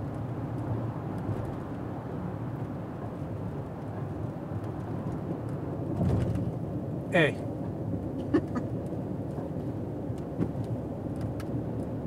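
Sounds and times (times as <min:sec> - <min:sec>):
car interior road and engine noise: 0:00.0 - 0:12.0.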